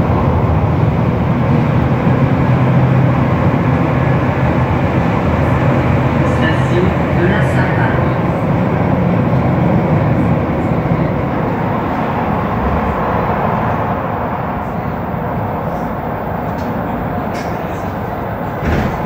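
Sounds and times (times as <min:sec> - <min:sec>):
metro car running on rubber tyres: 0:00.0 - 0:19.0.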